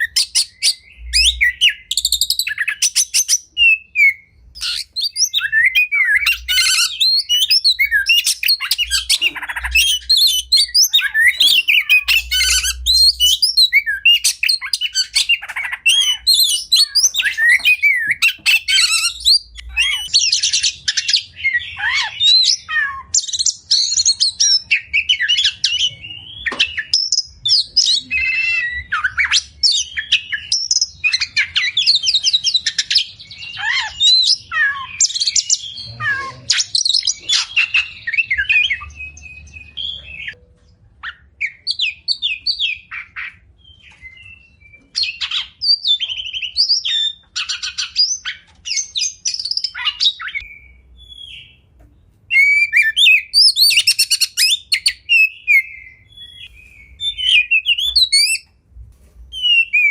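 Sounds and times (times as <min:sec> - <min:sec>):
bird singing: 0:00.0 - 0:58.6, 0:59.3 - 0:59.9.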